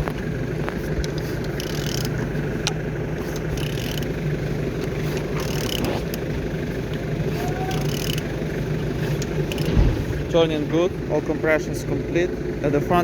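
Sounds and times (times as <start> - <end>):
engine turned over by wrench: 0.0 - 13.0
steady low hum: 0.0 - 13.0.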